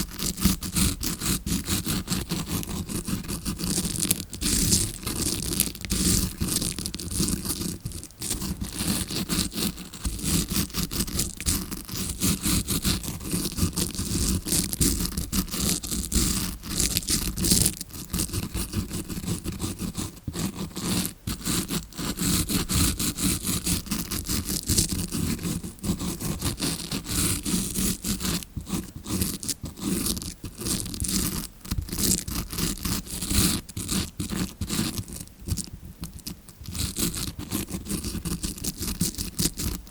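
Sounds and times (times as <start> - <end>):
brush scratching on microphone: 0.0 - 39.9.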